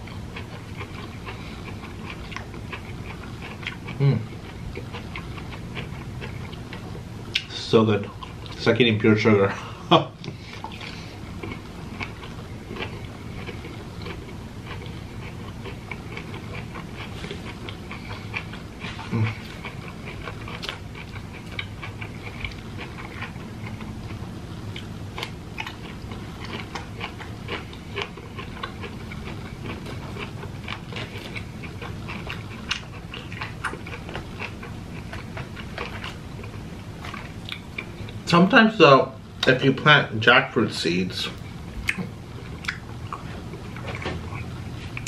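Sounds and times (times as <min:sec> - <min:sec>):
person chewing wetly: 0:00.0 - 0:08.6, 0:10.2 - 0:38.2, 0:41.3 - 0:45.0.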